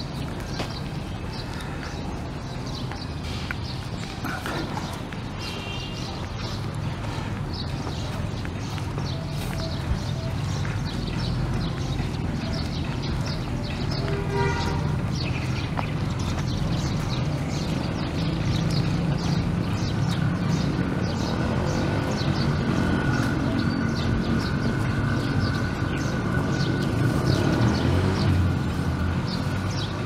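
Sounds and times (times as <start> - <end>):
distant traffic rumble: 0.0 - 30.0
small birds chirping: 0.0 - 30.0.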